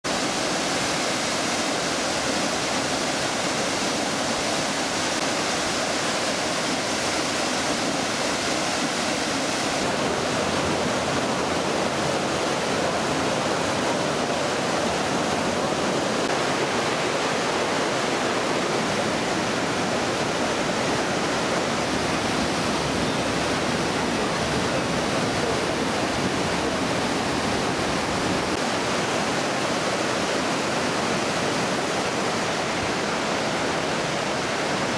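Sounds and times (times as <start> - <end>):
waterfall and torrent rushing over rock: 0.0 - 34.9.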